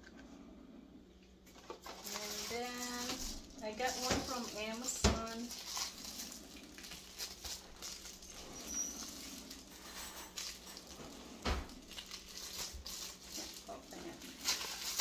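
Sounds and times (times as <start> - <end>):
plastic mailer rustling: 1.5 - 15.0.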